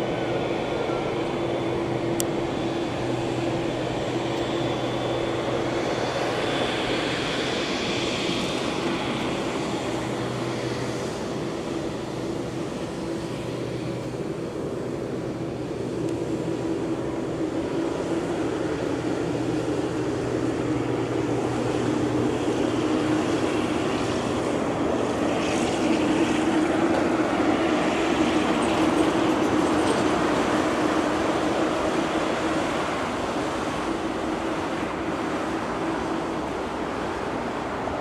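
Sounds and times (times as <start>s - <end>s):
jet engines running: 0.0s - 38.0s.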